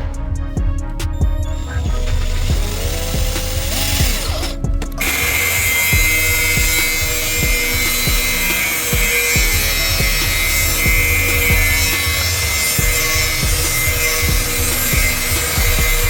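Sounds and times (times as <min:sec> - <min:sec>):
music with bass beat: 0:00.0 - 0:16.0.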